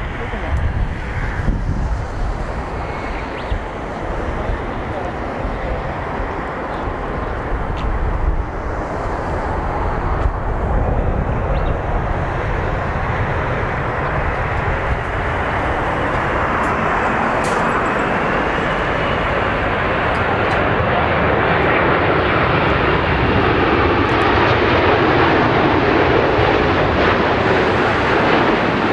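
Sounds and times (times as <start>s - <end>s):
jet engine rush: 0.0s - 28.9s.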